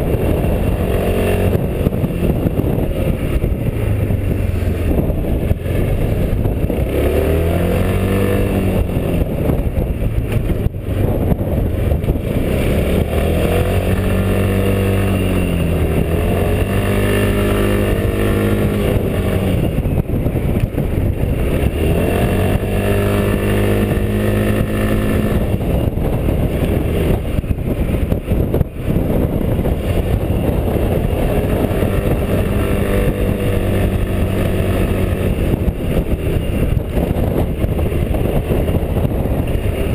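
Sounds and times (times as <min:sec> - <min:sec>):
scooter engine revving: 0:00.0 - 0:39.9
wind on microphone: 0:00.0 - 0:39.9.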